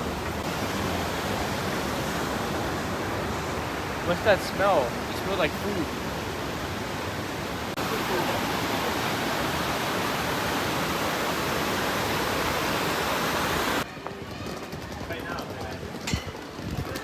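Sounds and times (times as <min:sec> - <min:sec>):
fast-flowing river water: 0:00.0 - 0:13.8.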